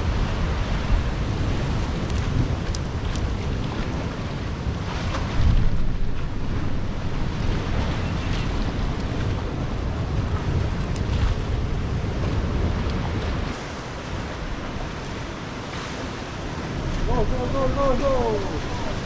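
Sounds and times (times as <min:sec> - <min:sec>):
surf washing against rocks: 0:00.0 - 0:19.0
wind rumbling on microphone: 0:00.0 - 0:19.0.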